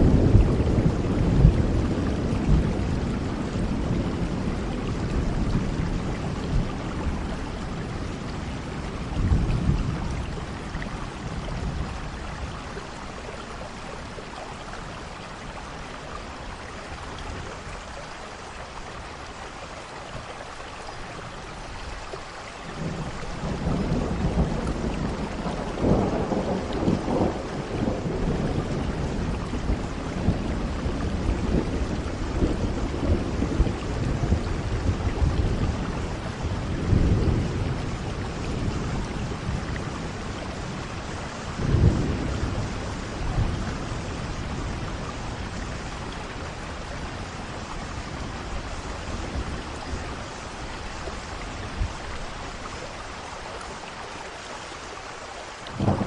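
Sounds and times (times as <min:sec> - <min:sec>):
low thunder rumble: 0:00.0 - 0:18.5, 0:22.7 - 0:54.0, 0:55.7 - 0:56.0
steady rain hissing: 0:00.0 - 0:56.0.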